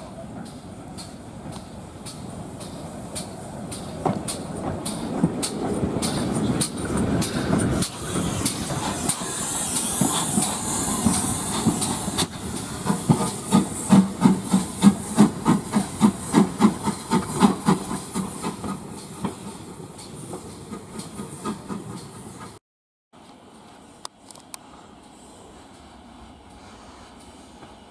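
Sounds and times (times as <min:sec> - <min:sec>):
steam hissing: 0:00.0 - 0:22.6, 0:24.8 - 0:27.9
steam train chugging: 0:00.0 - 0:22.6, 0:24.7 - 0:27.9.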